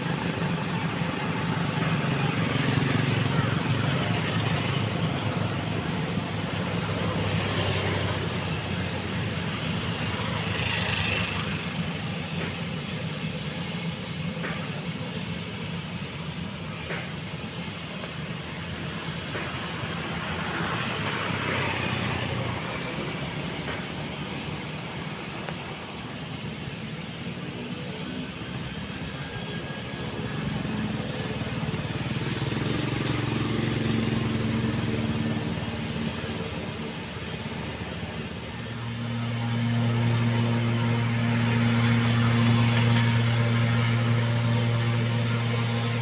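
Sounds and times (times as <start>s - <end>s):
turboprop plane taxiing: 0.0s - 46.0s.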